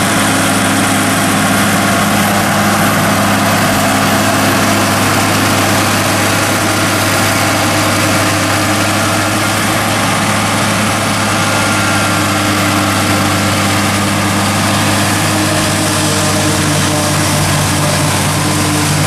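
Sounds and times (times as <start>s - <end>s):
forage harvester rushing noise: 0.0s - 19.0s
tractor diesel engine running: 0.0s - 19.0s.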